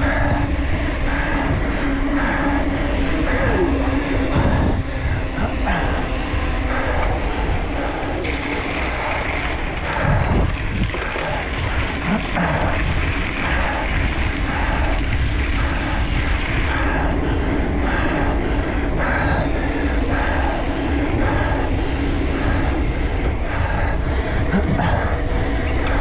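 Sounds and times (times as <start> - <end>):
mountain bike rattle and tyre noise: 0.0 - 26.0
wind on microphone: 0.0 - 26.0.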